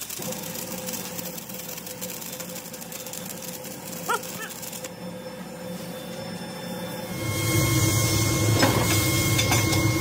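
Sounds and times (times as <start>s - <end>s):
workshop machine humming: 0.0s - 10.0s.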